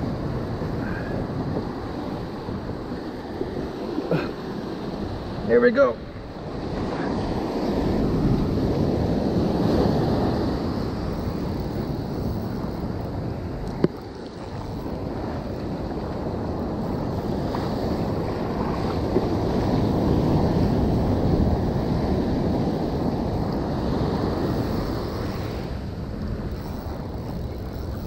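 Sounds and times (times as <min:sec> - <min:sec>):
surf rushing up the beach: 0:00.0 - 0:28.0
wind buffeting the microphone: 0:00.0 - 0:28.0.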